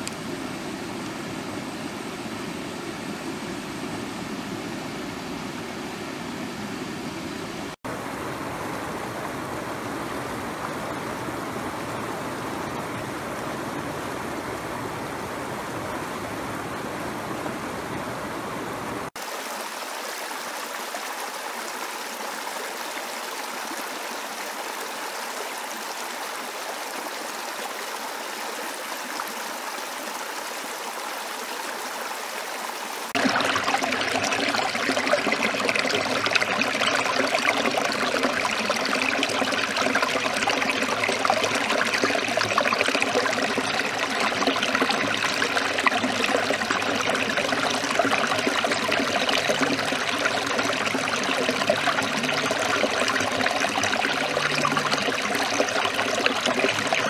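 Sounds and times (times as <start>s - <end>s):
stream rushing over rocks: 7.4s - 57.0s.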